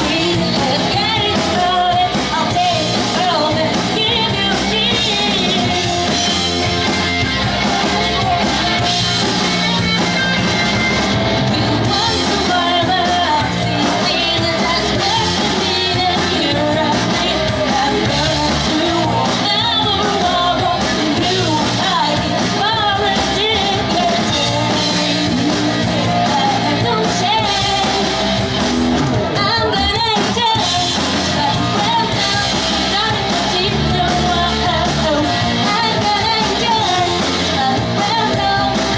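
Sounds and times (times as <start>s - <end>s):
person singing lead vocal: 0.0s - 9.7s, 11.2s - 38.9s
live rock band playing: 0.0s - 38.9s.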